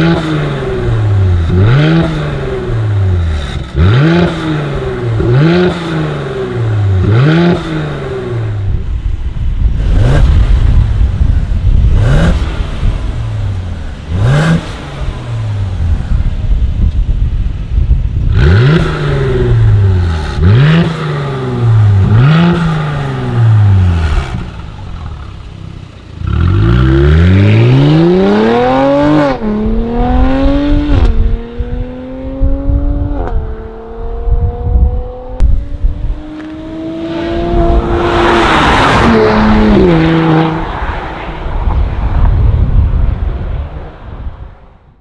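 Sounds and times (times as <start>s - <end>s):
car engine accelerating with upshifts: 0.0s - 43.4s.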